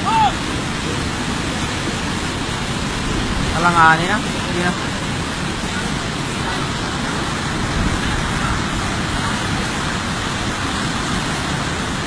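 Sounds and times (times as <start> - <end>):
floodwater torrent roaring: 0.0 - 12.0.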